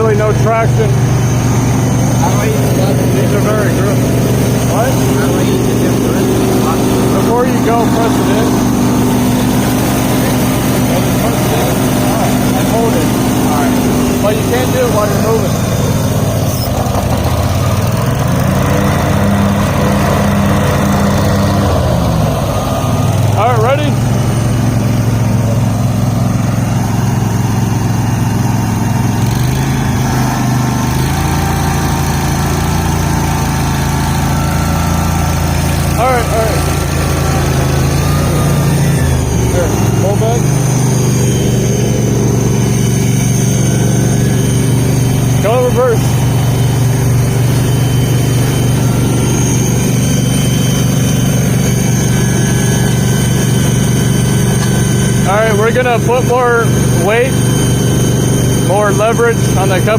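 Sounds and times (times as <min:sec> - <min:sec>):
garden tractor engines under load: 0:00.0 - 0:59.9.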